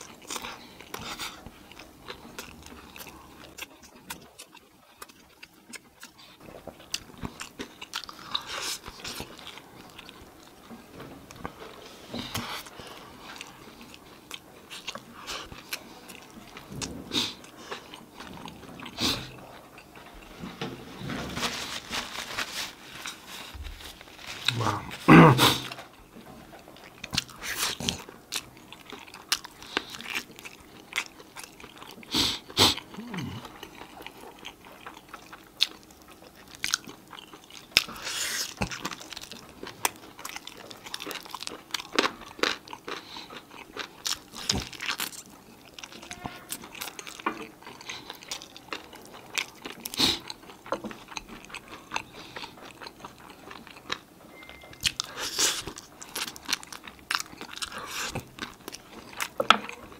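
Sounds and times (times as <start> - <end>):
person chewing chicken wings: 0.0 - 20.8, 23.0 - 59.9.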